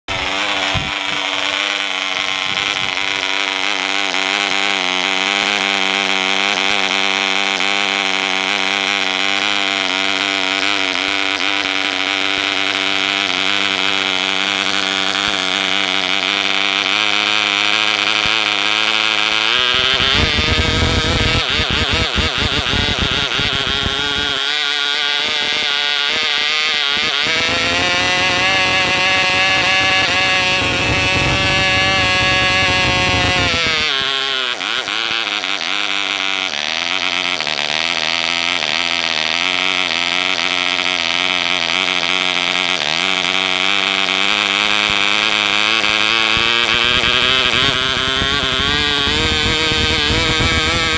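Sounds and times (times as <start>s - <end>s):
model engine high-pitched buzz: 0.0s - 50.9s.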